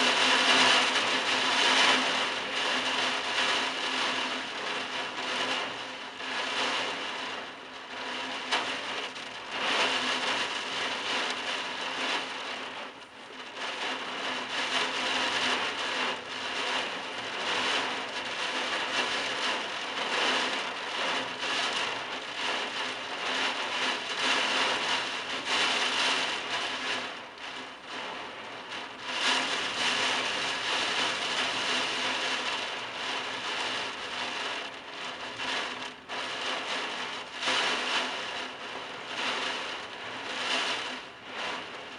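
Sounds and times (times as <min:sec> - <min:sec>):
heavy rain on roof tiles: 0:00.0 - 0:41.9.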